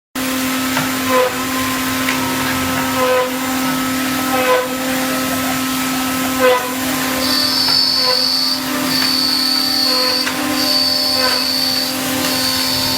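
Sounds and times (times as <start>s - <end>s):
machine spindle motors whining: 0.2s - 12.9s.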